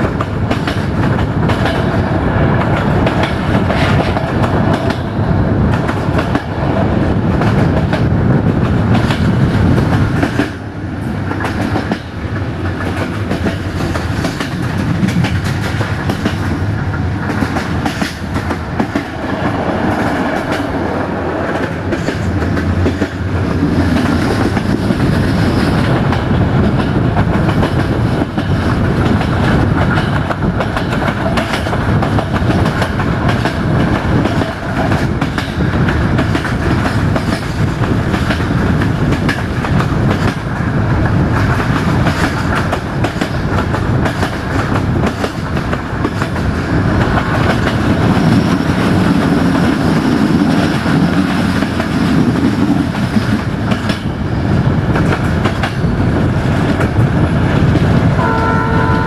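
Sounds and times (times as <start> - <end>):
train coach rumble: 0.0 - 59.0.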